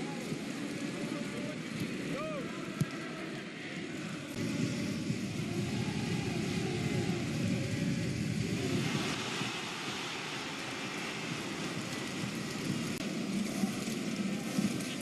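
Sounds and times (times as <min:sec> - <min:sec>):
stadium crowd hubbub: 0:00.0 - 0:15.0.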